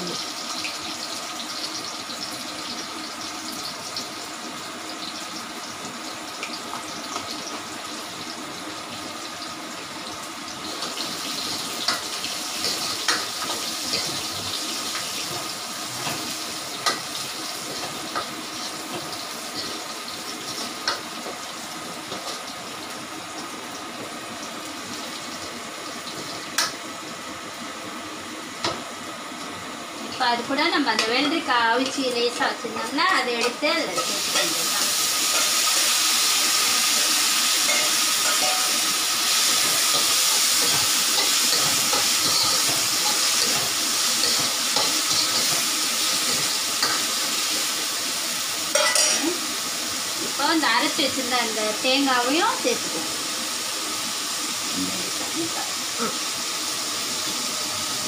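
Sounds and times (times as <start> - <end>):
spices sizzling in hot oil: 0.0 - 58.0.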